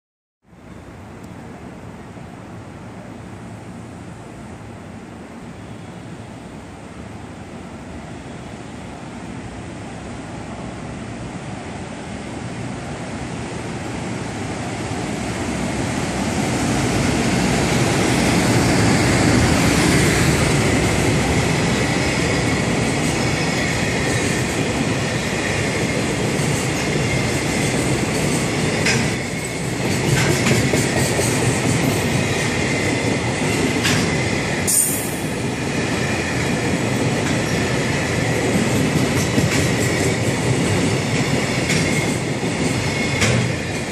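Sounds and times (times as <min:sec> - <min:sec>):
freight train rumbling: 0:00.6 - 0:43.9.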